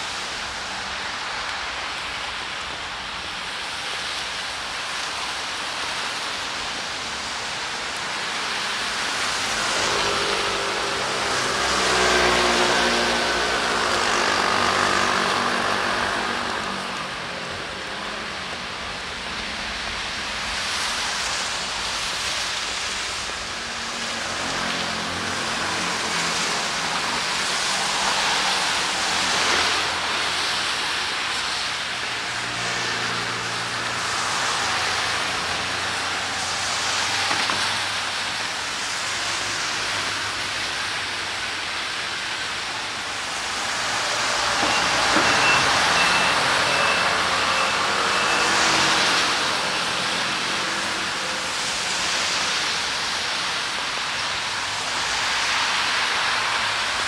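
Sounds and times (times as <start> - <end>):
rain: 0.0 - 57.0
tyres hissing on wet street: 0.0 - 57.0.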